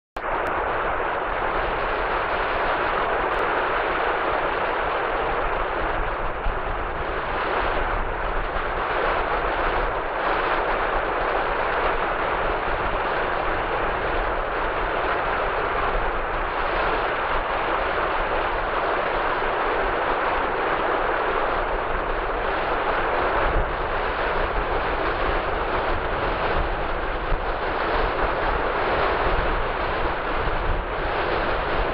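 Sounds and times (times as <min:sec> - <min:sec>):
sea waves breaking on beach: 0:00.2 - 0:31.9
wind rumble on microphone: 0:00.2 - 0:31.9.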